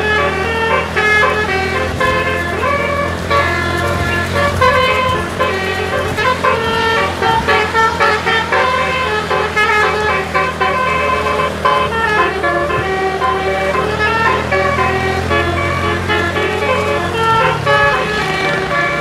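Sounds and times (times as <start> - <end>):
bus air horn melody: 0.0 - 19.0
bus engine hum: 0.0 - 19.0.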